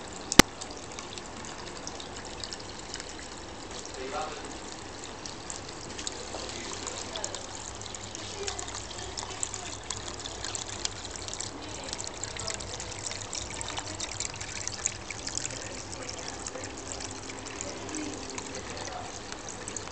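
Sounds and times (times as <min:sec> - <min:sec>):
water feature trickling and splashing: 0:00.0 - 0:19.9.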